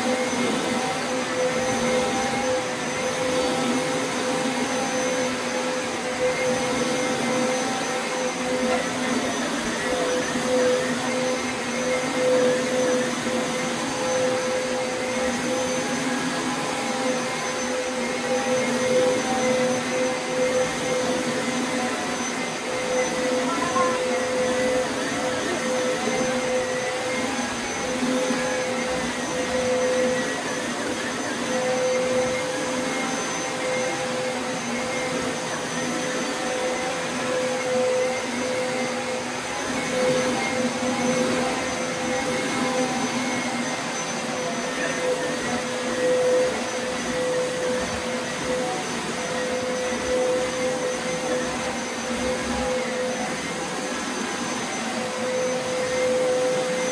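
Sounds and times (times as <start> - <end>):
carpet shampooer motor whine: 0.0 - 56.9.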